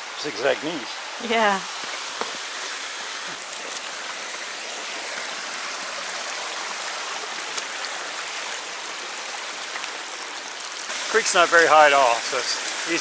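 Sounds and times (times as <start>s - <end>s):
creek flowing over rocks: 0.0s - 13.0s.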